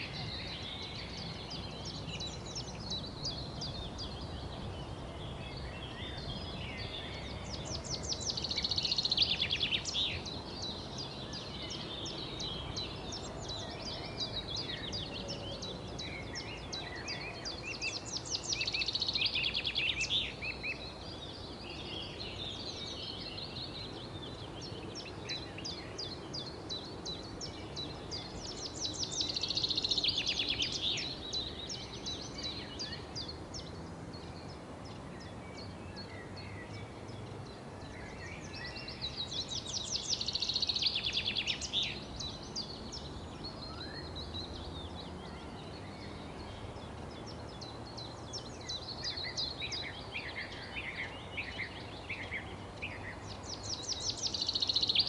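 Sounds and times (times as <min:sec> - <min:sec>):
background hiss: 0:00.0 - 0:55.0
songbirds chirping: 0:00.0 - 0:55.0.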